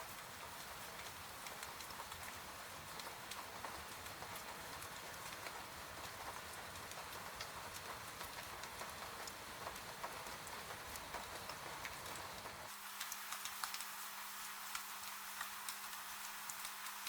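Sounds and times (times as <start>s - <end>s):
steady rain: 0.0s - 17.0s
wood fire crackling: 0.6s - 17.0s.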